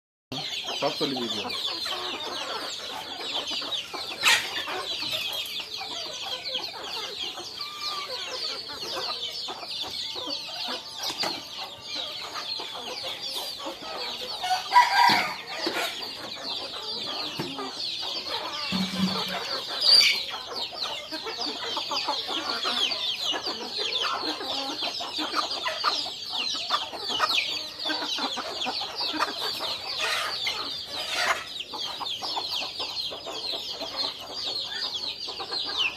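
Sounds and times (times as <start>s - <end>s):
baby chicks peeping: 0.3s - 35.9s.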